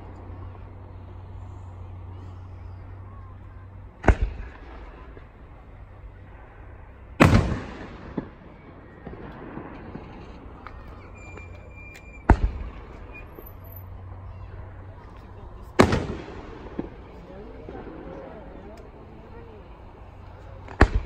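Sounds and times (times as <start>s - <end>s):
small firework crack: 1.9s - 21.0s
fireworks booming: 3.6s - 21.0s.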